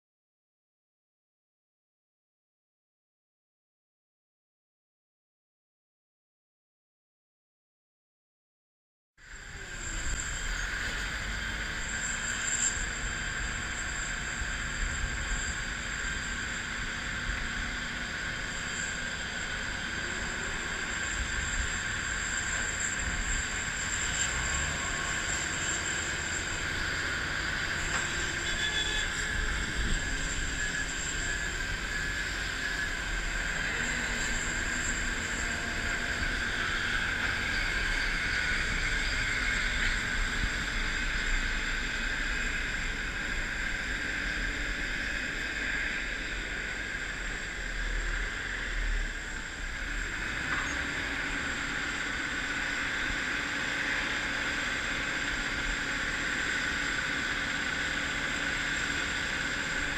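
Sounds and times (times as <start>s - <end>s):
jet engine running: 9.2s - 59.9s.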